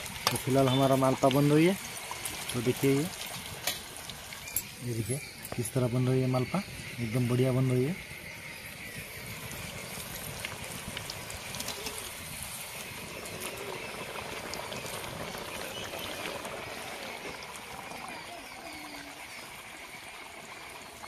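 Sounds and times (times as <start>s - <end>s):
batter sizzling in hot oil: 0.0s - 21.0s.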